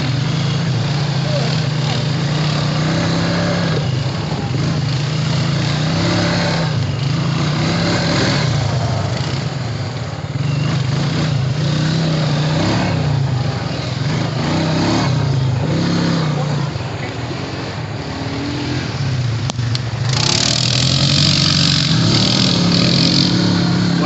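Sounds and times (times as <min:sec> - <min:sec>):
atv engine drone: 0:00.0 - 0:24.0
wind and trail noise: 0:00.0 - 0:24.0.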